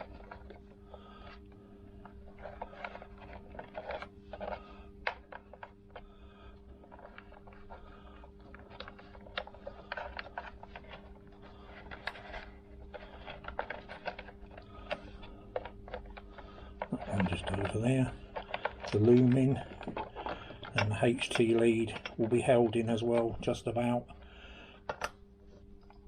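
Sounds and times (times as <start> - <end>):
small clicks taps and scrapes: 0.0 - 26.0
steady low hum: 0.0 - 26.0.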